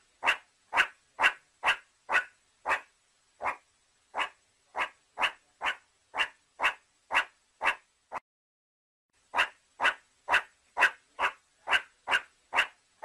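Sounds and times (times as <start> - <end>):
meerkat barking calls: 0.2 - 8.2, 9.3 - 12.8.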